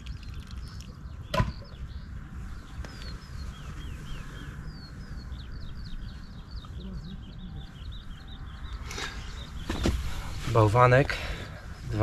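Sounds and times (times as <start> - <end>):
birds chirping: 0.0 - 12.0
low wind rumble: 0.0 - 12.0.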